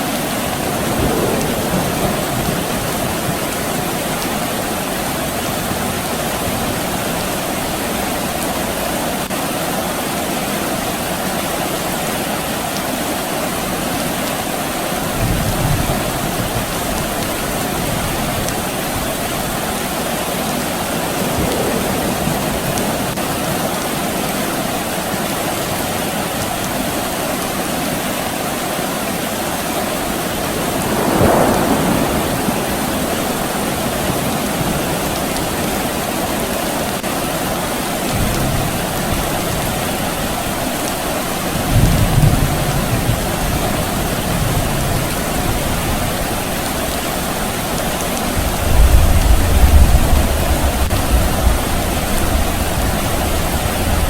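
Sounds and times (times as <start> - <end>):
distant thunder rumbles: 0.0 - 9.3, 13.6 - 25.1, 29.4 - 54.0
steady rain falling: 0.0 - 54.0.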